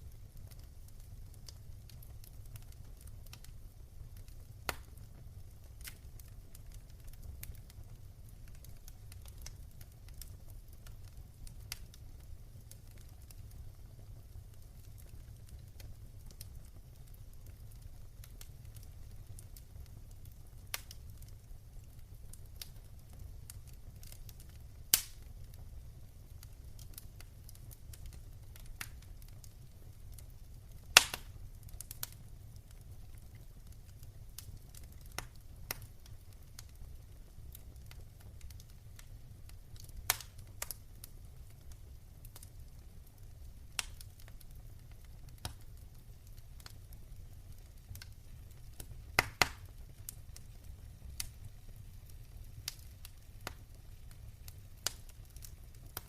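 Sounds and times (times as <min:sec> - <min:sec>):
fire low rumble: 0:00.0 - 0:56.0
fire snapping and popping: 0:00.0 - 0:56.0.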